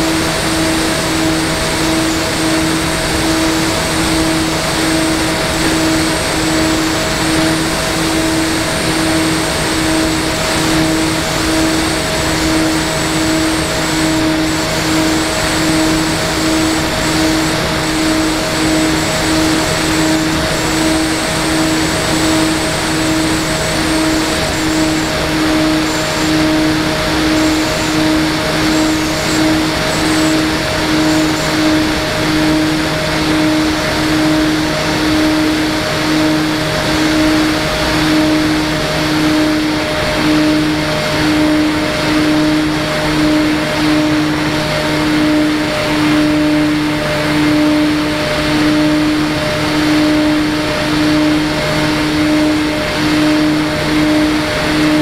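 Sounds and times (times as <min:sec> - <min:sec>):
model aircraft motor humming: 0:00.0 - 0:55.0.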